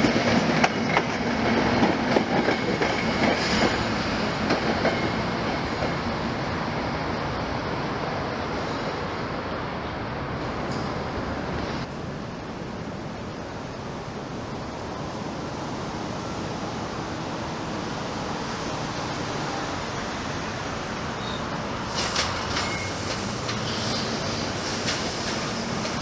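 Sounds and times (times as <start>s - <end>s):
electric train rushing: 0.0s - 26.0s.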